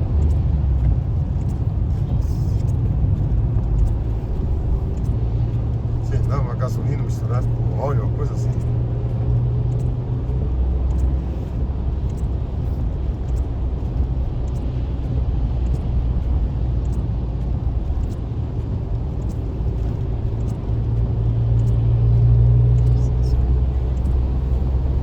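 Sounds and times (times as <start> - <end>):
car driving on highway interior: 0.0 - 25.0
faint ticks: 0.0 - 25.0.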